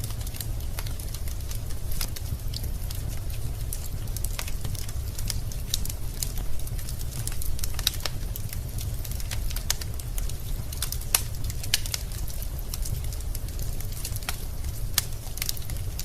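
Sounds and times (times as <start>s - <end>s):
low rumble of flames: 0.0s - 16.0s.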